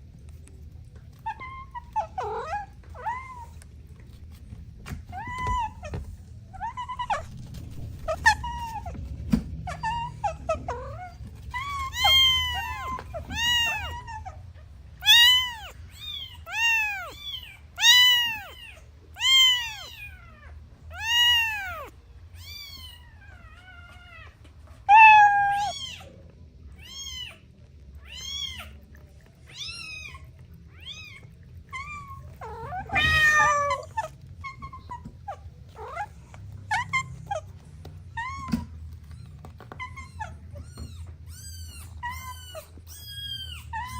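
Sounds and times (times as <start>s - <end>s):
kittens meowing: 1.1s - 4.3s, 4.9s - 43.9s.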